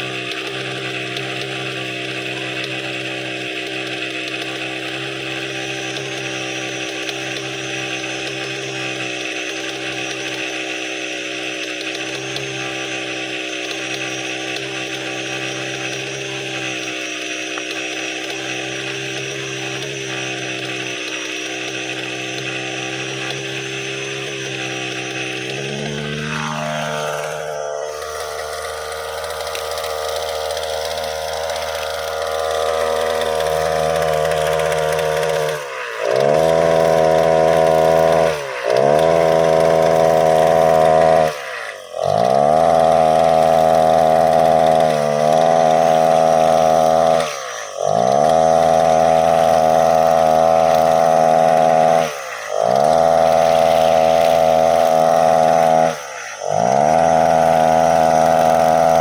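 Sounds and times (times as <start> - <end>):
brushcutter engine running: 0.0 - 59.0.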